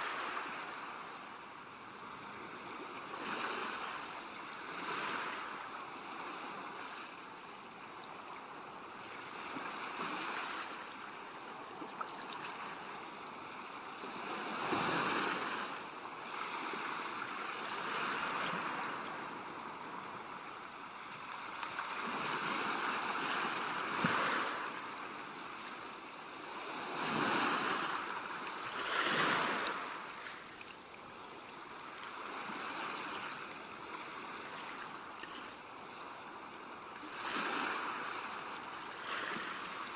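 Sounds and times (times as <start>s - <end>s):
waves breaking: 2.3s - 7.2s, 9.0s - 39.9s.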